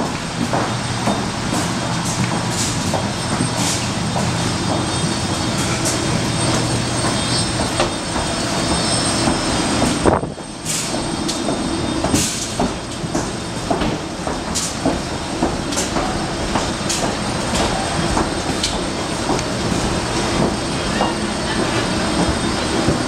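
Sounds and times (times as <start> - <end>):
footsteps clicking: 0.0 - 23.0
mechanical hum with high whine: 0.0 - 23.0.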